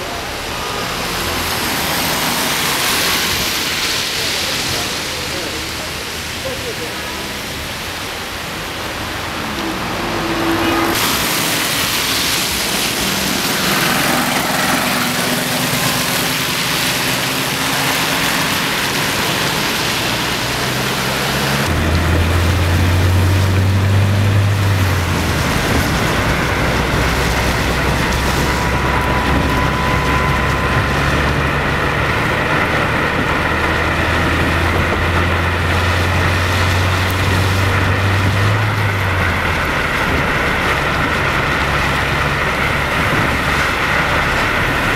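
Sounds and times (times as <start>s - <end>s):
car engine drone: 0.0s - 44.9s
tyres hissing on slushy road: 0.0s - 44.9s.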